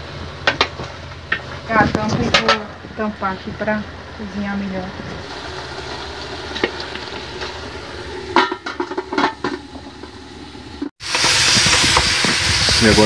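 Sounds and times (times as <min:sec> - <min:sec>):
chicken sizzling in pot: 0:02.4 - 0:13.0.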